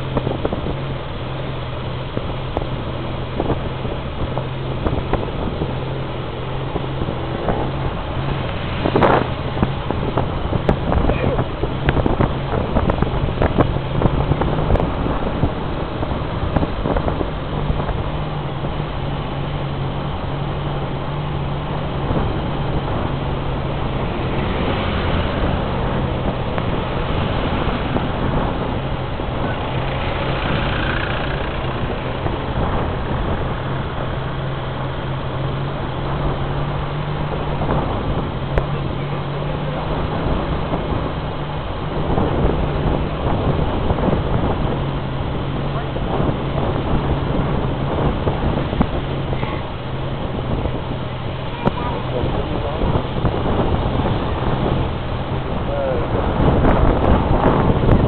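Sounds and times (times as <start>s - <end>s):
road noise: 0.0s - 58.0s
vehicle engine humming: 0.0s - 58.0s
wind: 0.0s - 58.0s.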